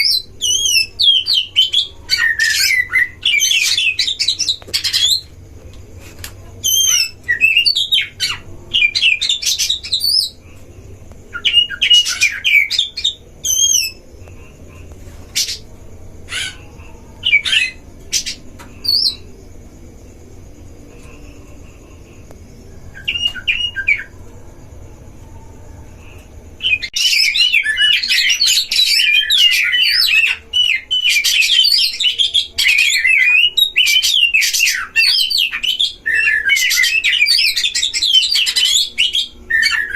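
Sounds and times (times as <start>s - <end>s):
birds singing: 0.0s - 39.9s
low steady hum: 0.0s - 39.9s.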